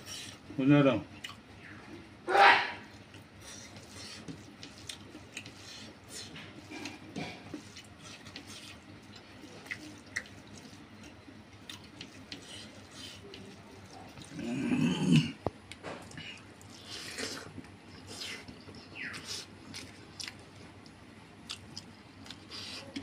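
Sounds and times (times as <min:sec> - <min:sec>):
chewing and lip-smacking: 0:01.2 - 0:01.4, 0:02.8 - 0:14.4, 0:15.7 - 0:23.0.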